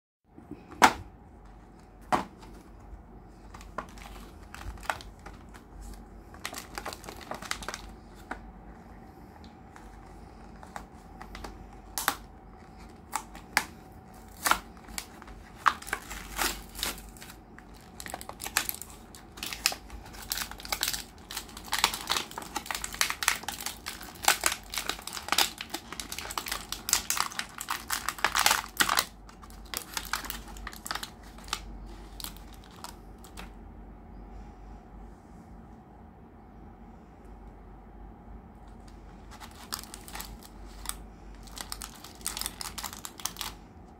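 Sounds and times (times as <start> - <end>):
plastic packaging crinkling: 1.8 - 33.5, 38.9 - 43.7.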